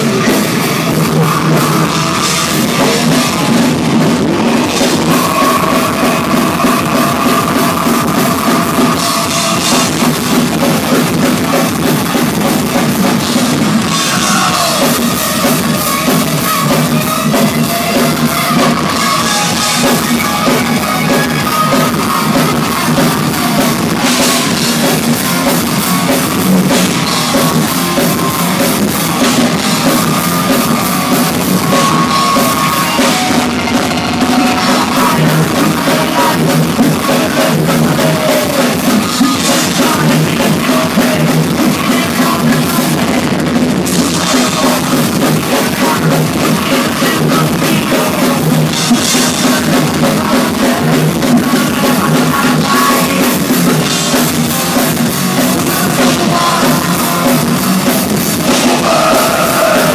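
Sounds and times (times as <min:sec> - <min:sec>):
distorted electric guitars: 0:00.0 - 0:59.9
driving drums with kick drum: 0:00.0 - 0:59.9.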